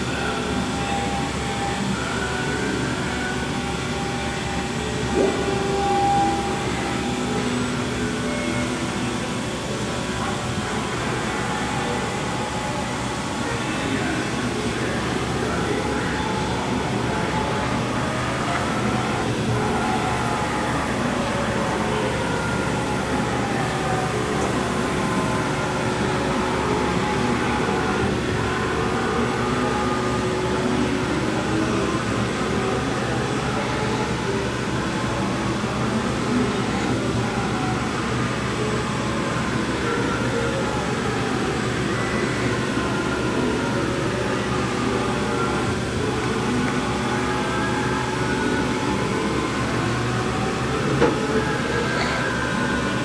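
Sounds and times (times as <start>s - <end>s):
faint machine whines: 0.0s - 53.0s
machining center humming: 0.0s - 53.0s.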